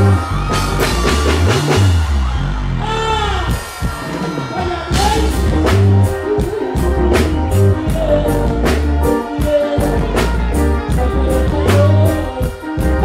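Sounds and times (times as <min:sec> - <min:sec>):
drum kit beat: 0:00.0 - 0:13.0
guitar: 0:00.0 - 0:13.0
heavy bass: 0:00.0 - 0:13.0
keyboards: 0:00.0 - 0:13.0.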